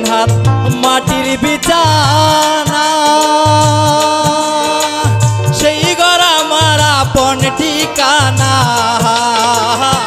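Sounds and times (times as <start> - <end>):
dhol drum strokes: 0.0 - 10.0
harmonium: 0.0 - 10.0
man singing: 0.0 - 10.0.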